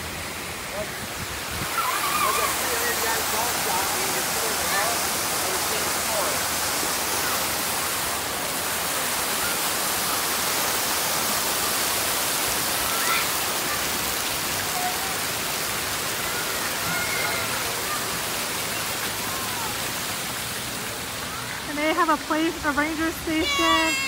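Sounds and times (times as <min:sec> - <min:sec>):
fountain water splashing: 0:00.0 - 0:24.0.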